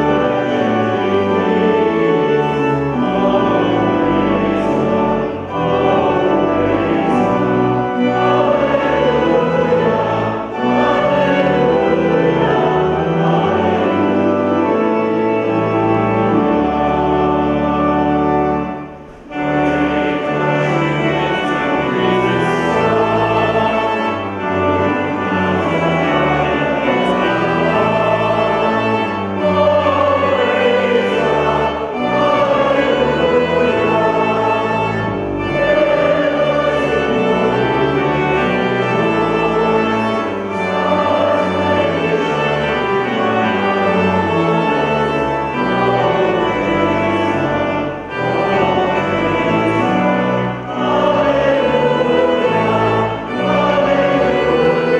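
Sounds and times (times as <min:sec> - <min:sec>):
choir singing a hymn: 0:00.0 - 0:54.9
organ: 0:00.0 - 0:54.9.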